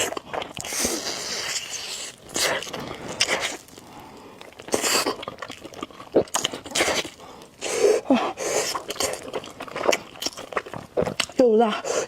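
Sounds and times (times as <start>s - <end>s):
noisy noodle slurp: 0.0s - 12.0s
wet mouth clicks of chewing: 0.0s - 12.0s.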